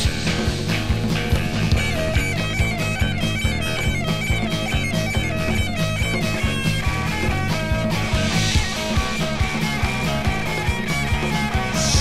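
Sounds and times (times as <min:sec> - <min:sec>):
bass: 0:00.0 - 0:12.0
drum beat: 0:00.0 - 0:12.0
reedy lead melody with sliding notes: 0:00.0 - 0:12.0.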